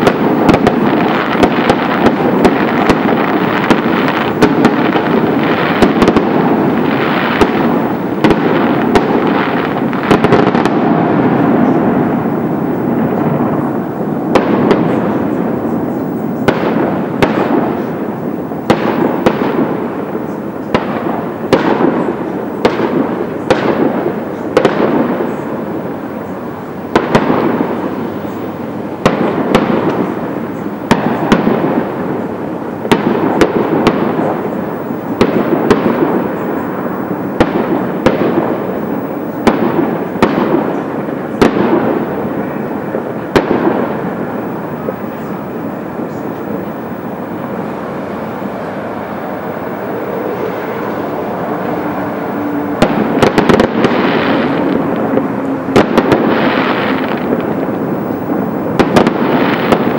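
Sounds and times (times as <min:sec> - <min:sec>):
fireworks bangs: 0:00.0 - 0:59.9
fireworks rushing and crackling: 0:00.0 - 0:59.9.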